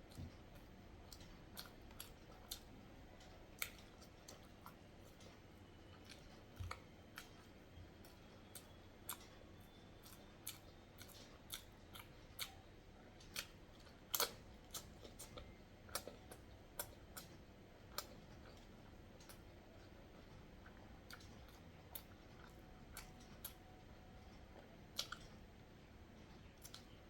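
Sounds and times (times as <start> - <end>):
wet chewing clicks and smacks: 0.1 - 25.6, 26.4 - 27.0.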